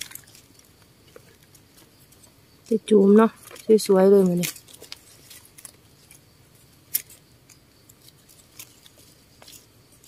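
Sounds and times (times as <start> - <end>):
twigs clicking and snapping: 0.0 - 2.8, 3.4 - 10.0.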